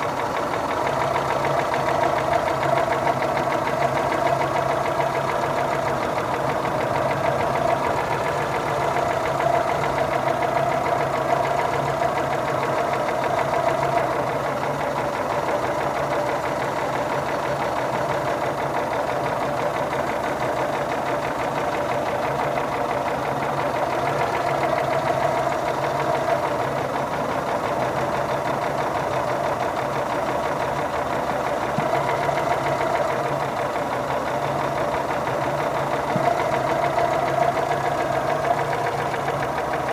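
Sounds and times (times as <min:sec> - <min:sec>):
engine idling with knocking: 0:00.0 - 0:39.9.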